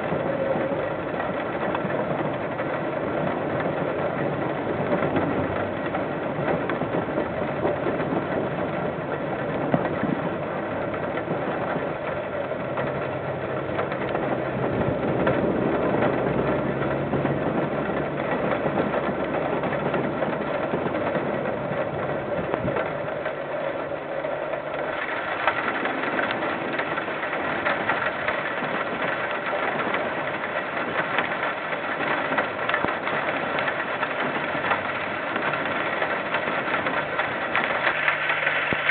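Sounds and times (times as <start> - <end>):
diesel locomotive engine hum: 0.0 - 38.9.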